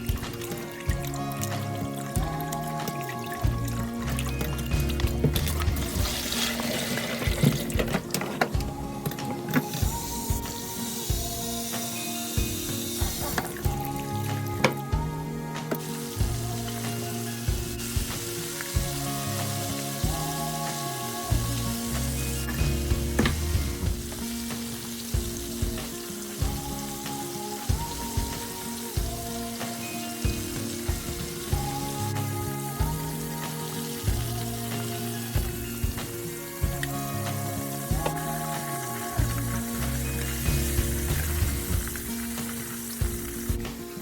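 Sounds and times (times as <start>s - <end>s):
food sizzling in hot oil: 0.0s - 8.0s, 8.6s - 44.0s
background music: 0.0s - 44.0s.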